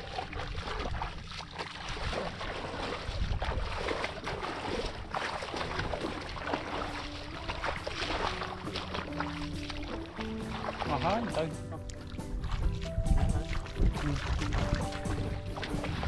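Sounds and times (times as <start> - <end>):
bare feet splashing in muddy water: 0.0 - 16.0.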